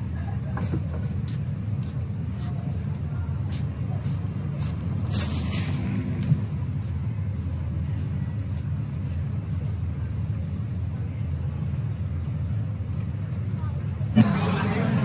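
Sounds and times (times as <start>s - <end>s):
city traffic rumble: 0.0s - 15.0s
footsteps on pavement: 0.4s - 14.2s.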